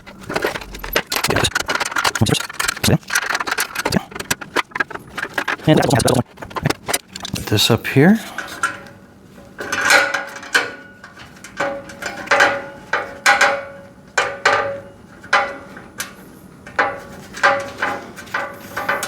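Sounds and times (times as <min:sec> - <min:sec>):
metal rack parts clinking: 0:00.0 - 0:08.9, 0:09.6 - 0:19.0.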